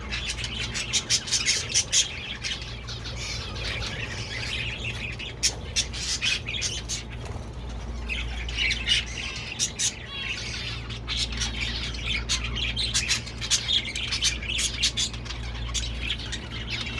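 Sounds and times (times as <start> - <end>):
caged birds squawking and chirping: 0.0 - 16.9.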